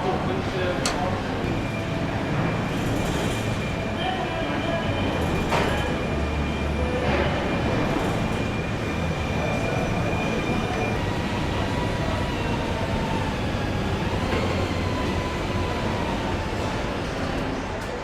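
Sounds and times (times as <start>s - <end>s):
machinery rumbling clatter: 0.0s - 18.0s.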